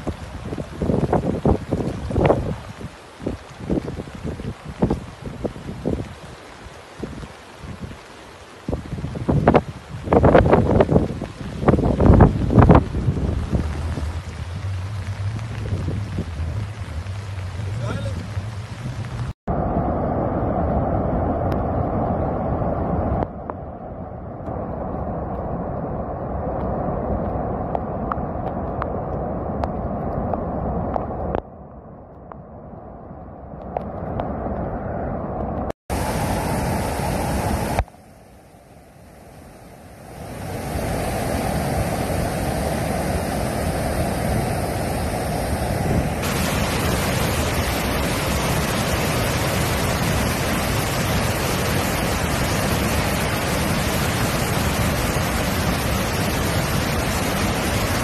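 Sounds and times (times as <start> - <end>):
floodwater rushing over spillway: 0.0 - 31.4, 35.5 - 58.0.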